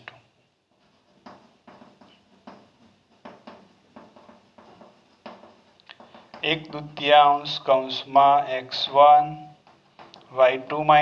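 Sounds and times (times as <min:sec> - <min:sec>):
chalk tapping and scraping: 0:00.7 - 0:11.0.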